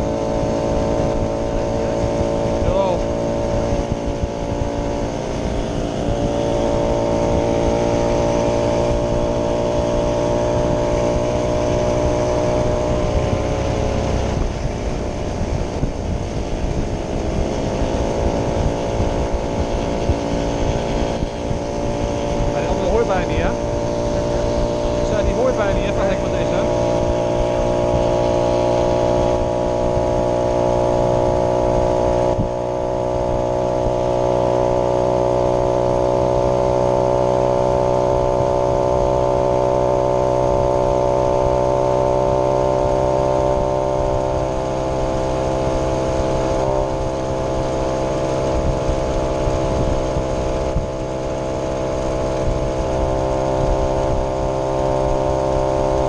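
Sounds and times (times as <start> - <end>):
moped two-stroke engine running: 0.0 - 56.0.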